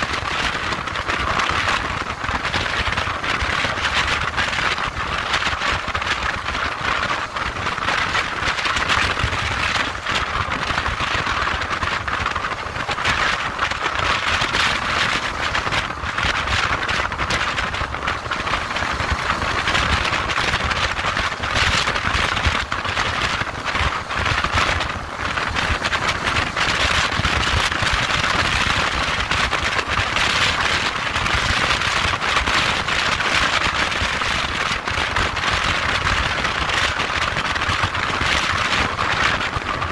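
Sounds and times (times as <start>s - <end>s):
motorcycle rumble: 0.0s - 39.9s
wind rush: 0.0s - 39.9s.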